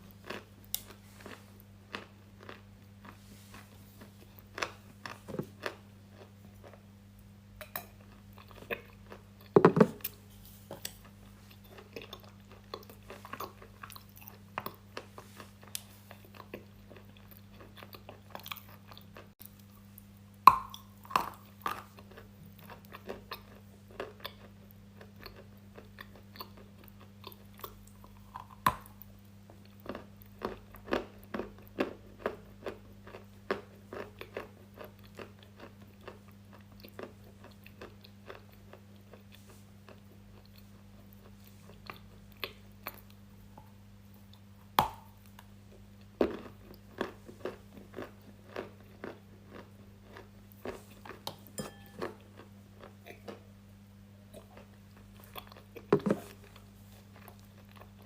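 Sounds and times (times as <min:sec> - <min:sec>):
crunching and chewing crisp food: 0:00.0 - 0:58.0
steady low hum: 0:00.0 - 0:58.0.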